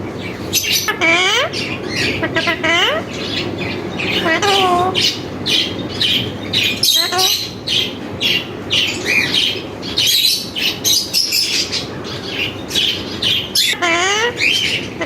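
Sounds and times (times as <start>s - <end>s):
steady background noise: 0.0s - 15.0s
parrot squawking and chirping: 0.1s - 15.0s.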